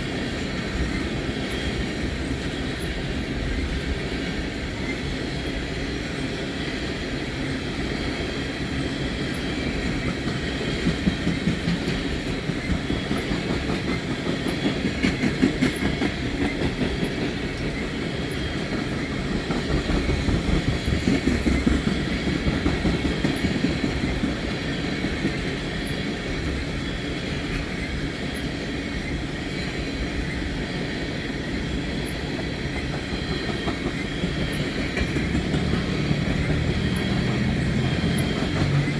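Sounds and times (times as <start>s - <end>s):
train rumble: 0.0s - 38.9s
train wheels clicking on rail joints: 7.1s - 38.9s.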